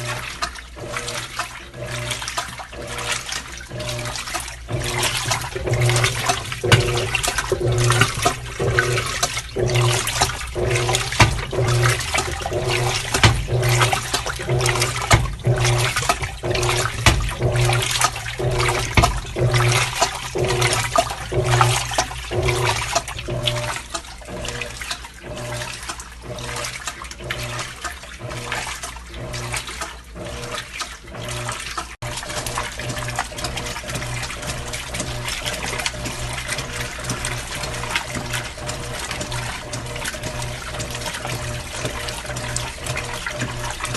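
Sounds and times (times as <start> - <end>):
washing machine churning water: 0.0 - 43.9.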